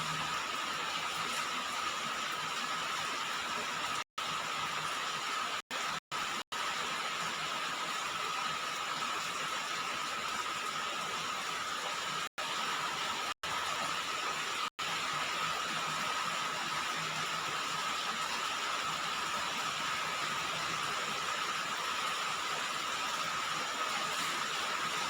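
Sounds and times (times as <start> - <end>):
rain falling on a roof: 0.0 - 25.0.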